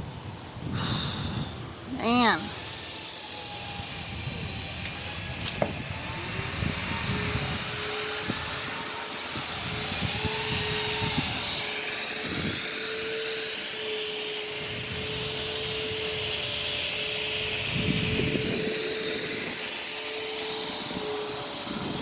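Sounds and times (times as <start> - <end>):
motor humming steadily: 0.0 - 22.0.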